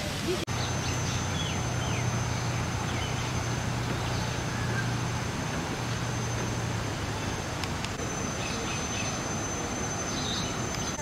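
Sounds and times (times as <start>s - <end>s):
steady low hum: 0.0s - 11.0s
thin high whine: 0.0s - 11.0s
wash of noise: 0.0s - 11.0s.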